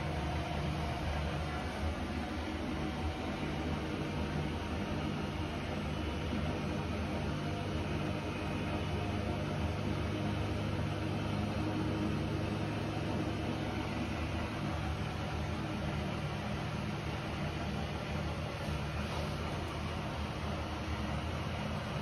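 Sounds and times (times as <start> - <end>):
washing machine spin cycle: 0.0 - 22.0.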